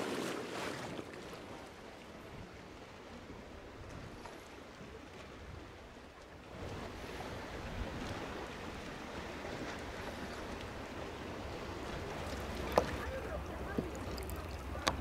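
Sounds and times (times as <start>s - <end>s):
water lapping at a boat hull: 0.0s - 15.0s.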